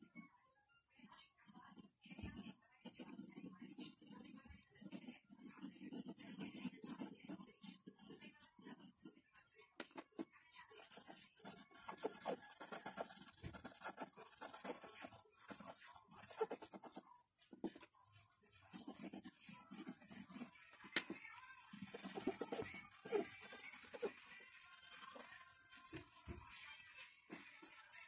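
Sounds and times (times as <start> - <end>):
pencil scratching on paper: 1.0 - 20.6, 21.7 - 27.4.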